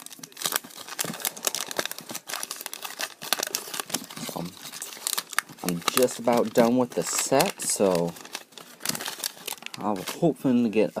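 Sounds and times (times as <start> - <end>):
cardboard cards being handled: 0.0 - 10.6
paper crinkling and rustling: 0.0 - 11.0.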